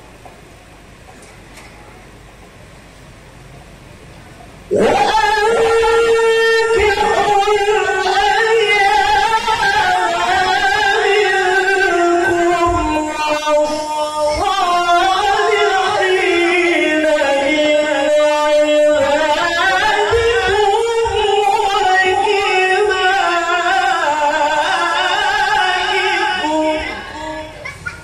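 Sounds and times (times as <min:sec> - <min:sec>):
man chanting through a microphone: 0:04.7 - 0:27.7.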